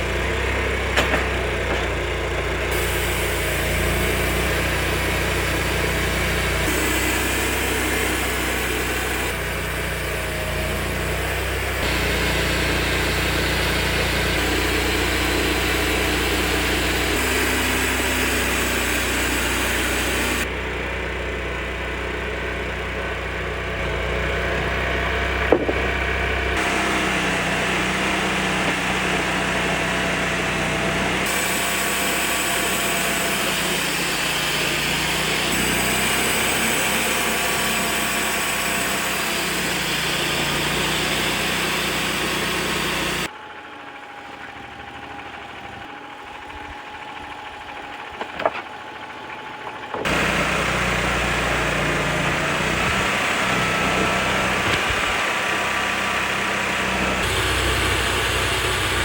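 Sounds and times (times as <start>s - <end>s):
band sawmill cutting log: 0.0s - 43.4s, 44.2s - 59.0s.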